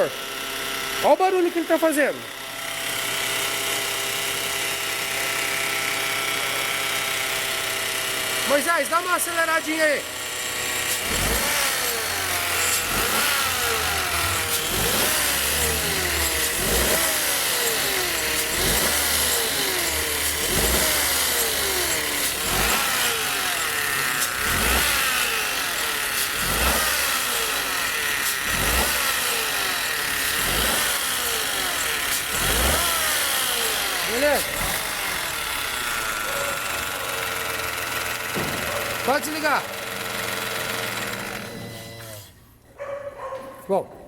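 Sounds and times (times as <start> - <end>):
loud engine belt noise: 0.0 - 42.6
car engine revving: 5.0 - 42.3.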